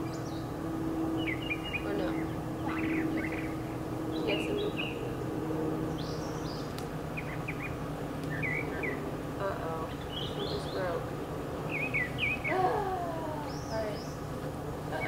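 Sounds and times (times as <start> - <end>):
birds chirping and calling: 0.0 - 15.0
low background hum: 0.0 - 15.0.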